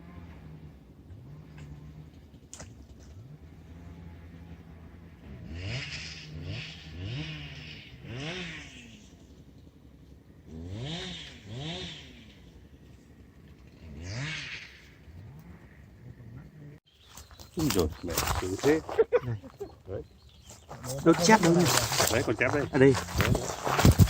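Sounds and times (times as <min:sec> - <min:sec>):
small engine revving: 0:00.0 - 0:19.7, 0:20.3 - 0:24.0.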